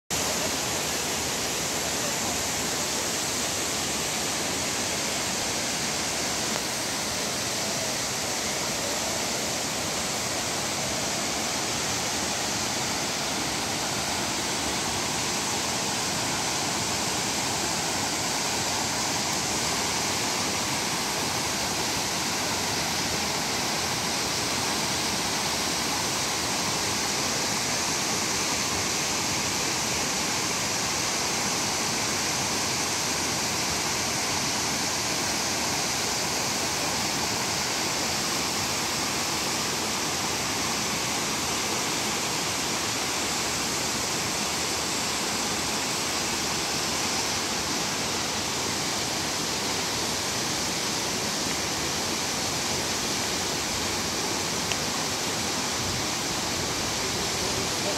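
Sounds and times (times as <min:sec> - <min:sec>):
waterfall rushing water: 0:00.1 - 0:57.9.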